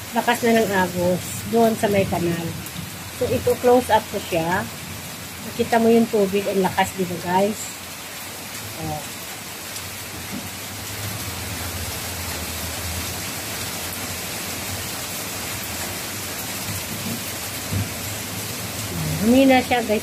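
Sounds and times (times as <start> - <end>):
heavy rain pouring: 0.0 - 20.0
water rushing along a canal: 0.0 - 20.0.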